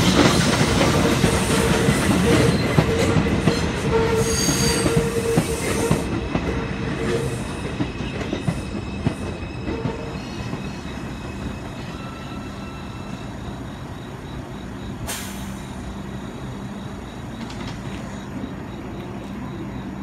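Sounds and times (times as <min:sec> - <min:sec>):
subway train wheels rumbling on rail: 0:00.0 - 0:20.0.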